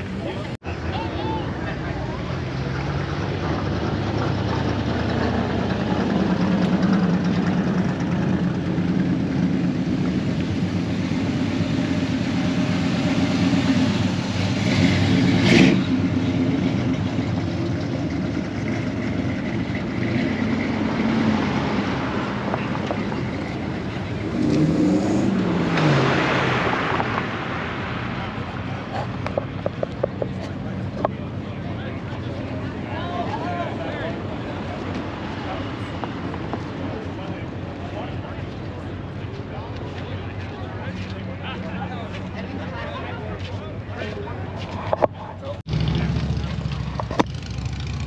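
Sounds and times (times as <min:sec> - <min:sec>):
car engines pulling away: 0:00.0 - 0:48.0.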